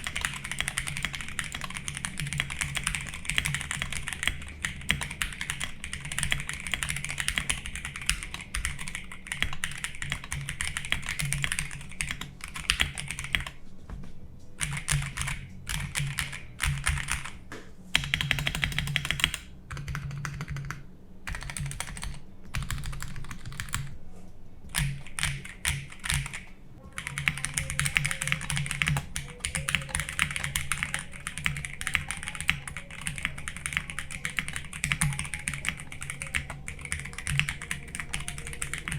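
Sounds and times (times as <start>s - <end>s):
fast typing on mechanical keyboard: 0.0s - 13.6s, 14.6s - 17.4s, 18.0s - 23.9s, 24.7s - 38.9s.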